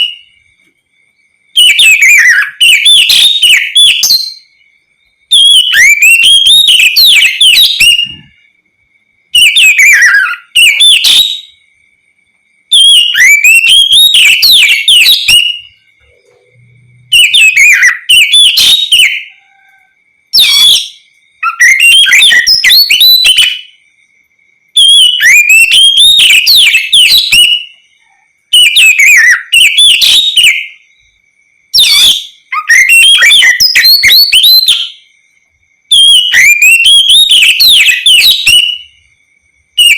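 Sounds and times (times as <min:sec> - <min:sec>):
bird singing whistled phrases: 0:00.0 - 0:00.4, 0:01.5 - 0:08.4, 0:09.3 - 0:11.7, 0:12.6 - 0:23.8, 0:24.8 - 0:30.9, 0:31.8 - 0:35.1, 0:35.9 - 0:39.0
faint steady high tone: 0:00.0 - 0:39.9.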